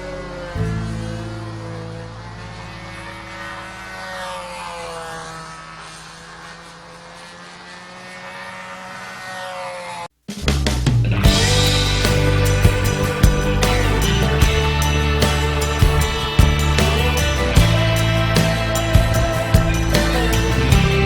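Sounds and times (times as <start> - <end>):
model airplane engine running: 0.0 - 10.1, 11.2 - 21.0.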